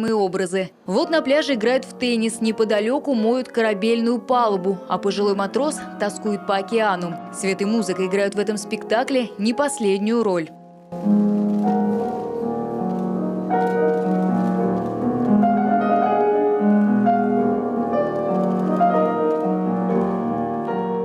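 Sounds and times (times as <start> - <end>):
slow piano music: 0.8 - 21.0.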